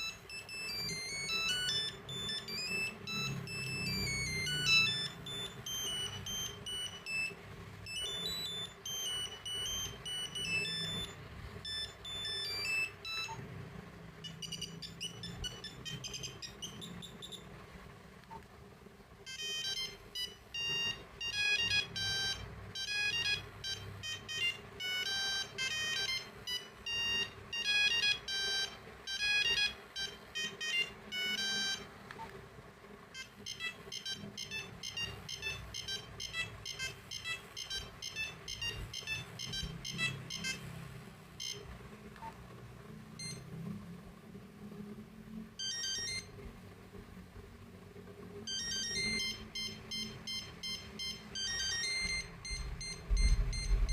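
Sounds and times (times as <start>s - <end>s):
monophonic ringtone melody: 0.0s - 13.5s, 14.2s - 17.4s, 19.2s - 31.9s, 33.1s - 40.8s, 41.4s - 41.7s, 45.6s - 46.3s, 48.4s - 53.9s.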